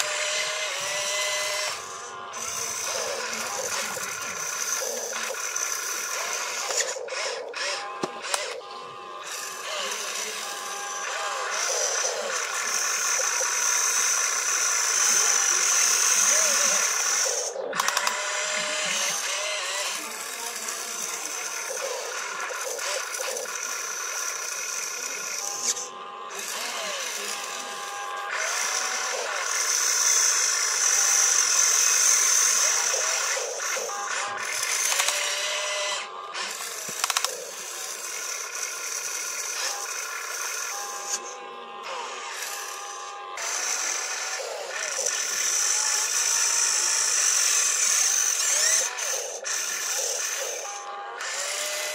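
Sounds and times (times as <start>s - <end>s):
small electric motors whining: 0.0s - 51.9s.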